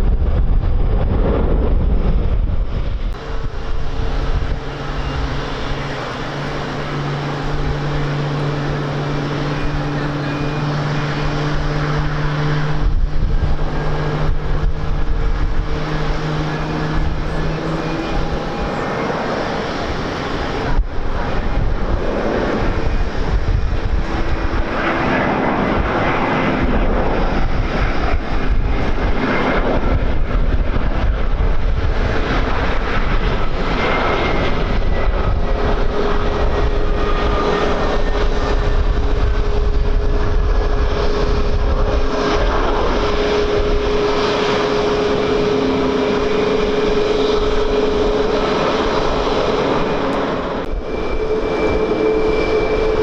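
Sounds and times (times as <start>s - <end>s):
jet engines roaring: 0.0s - 53.0s
wind buffeting microphone: 0.0s - 53.0s.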